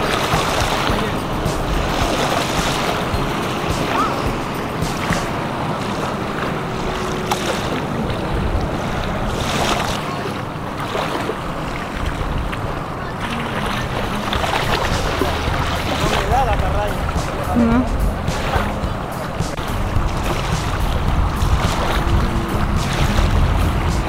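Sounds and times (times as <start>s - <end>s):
small waves lapping: 0.0s - 24.0s
wind on microphone: 0.0s - 24.0s.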